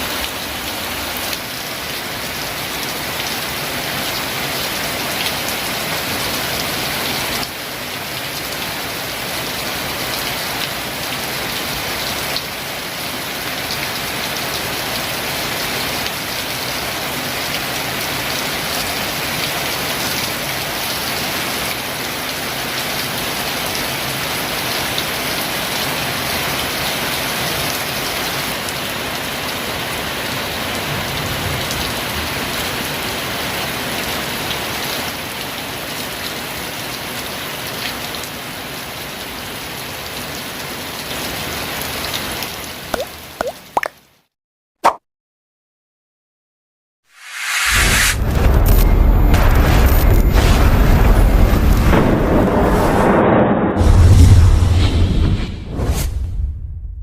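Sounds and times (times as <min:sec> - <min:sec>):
heavy rain pouring: 0:00.0 - 0:43.9, 0:47.2 - 0:53.2.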